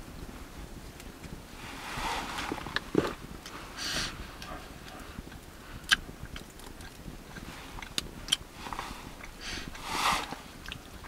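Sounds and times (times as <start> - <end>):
soft rushes of wind: 0.0 - 11.0
wood fire crackling: 0.0 - 11.0.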